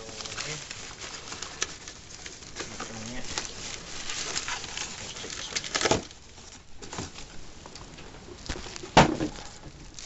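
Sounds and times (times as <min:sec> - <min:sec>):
crinkling scrape: 0:00.0 - 0:10.0
packaging rustling and scraping: 0:00.0 - 0:10.0.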